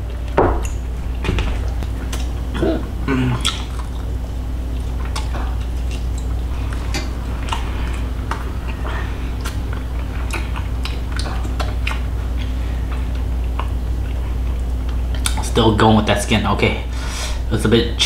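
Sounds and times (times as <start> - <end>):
chewing on meat: 0.0 - 15.5
low steady hum: 0.0 - 18.0.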